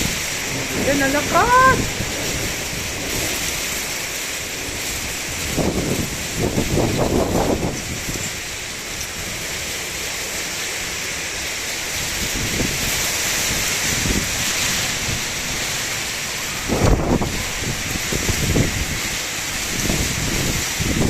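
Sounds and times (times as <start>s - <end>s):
wind buffeting microphone: 0.0s - 10.1s, 10.9s - 21.0s
heavy rain and hail: 0.0s - 21.0s.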